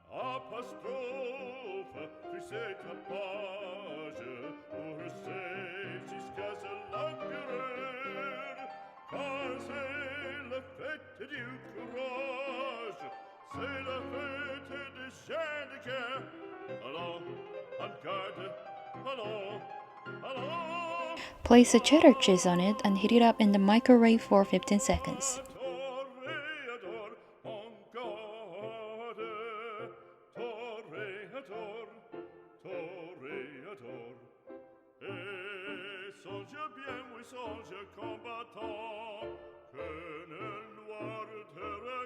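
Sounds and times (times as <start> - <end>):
operatic singing with vibrato: 0.0 - 34.2, 35.0 - 42.0.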